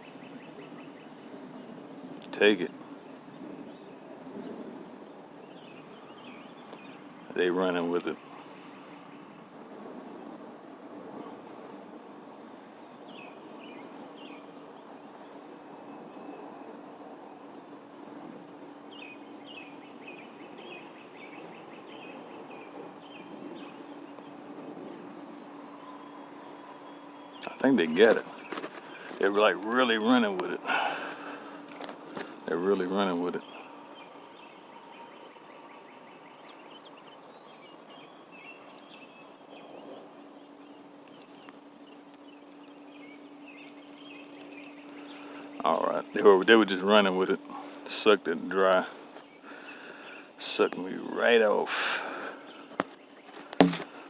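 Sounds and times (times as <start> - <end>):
bird chirping: 0.0 - 2.0, 2.9 - 10.3, 12.3 - 17.7, 18.5 - 47.7
faint low hum: 0.0 - 54.0
outdoor background noise: 0.0 - 54.0.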